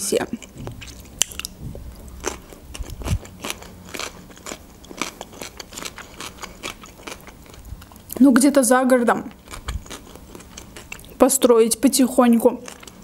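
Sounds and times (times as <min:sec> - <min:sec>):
chewing crisp cucumber: 0:00.3 - 0:08.2, 0:09.2 - 0:11.2, 0:12.4 - 0:13.0.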